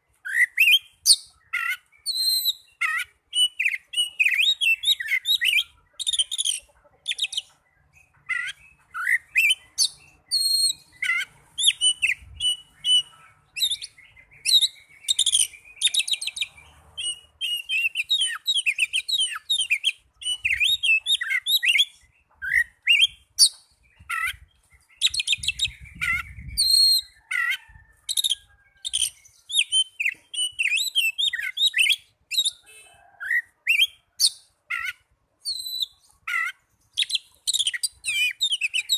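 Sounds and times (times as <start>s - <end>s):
bird singing chirps and whistles: 0.1s - 38.9s.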